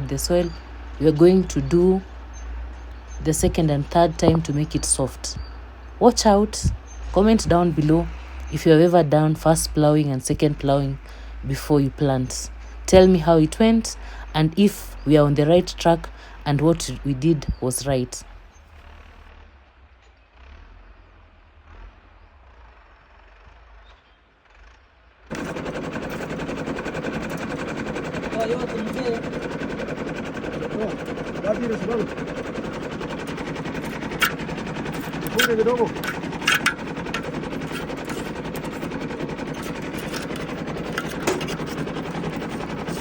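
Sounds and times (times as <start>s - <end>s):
tractor engine pulsing: 0.0s - 18.2s, 25.3s - 43.0s
low outdoor rumble: 0.0s - 23.8s, 24.4s - 43.0s.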